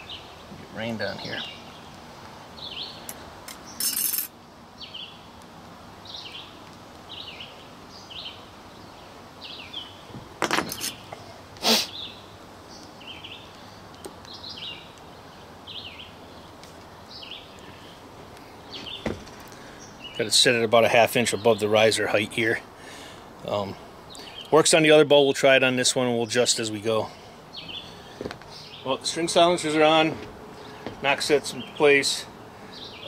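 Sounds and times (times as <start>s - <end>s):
bird singing: 0.0s - 5.4s, 6.0s - 10.1s, 11.9s - 33.0s.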